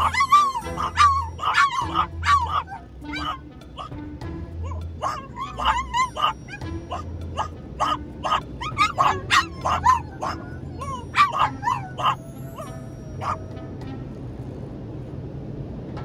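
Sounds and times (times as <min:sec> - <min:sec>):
dogs barking and yipping: 0:00.0 - 0:04.0, 0:04.6 - 0:13.8
dogs whining: 0:00.0 - 0:04.0, 0:04.6 - 0:13.7.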